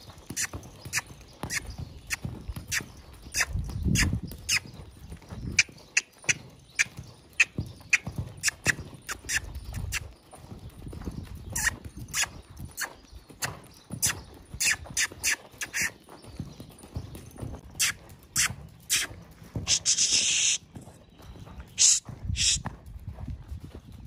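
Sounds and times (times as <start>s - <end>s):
hooves thudding in sand: 0.0s - 24.0s.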